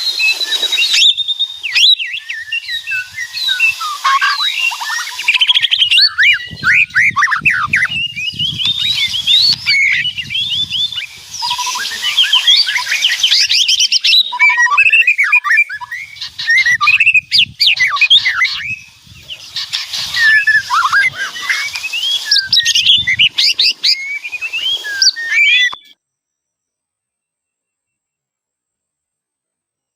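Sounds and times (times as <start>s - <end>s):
bird singing whistled phrases: 0.0s - 26.0s.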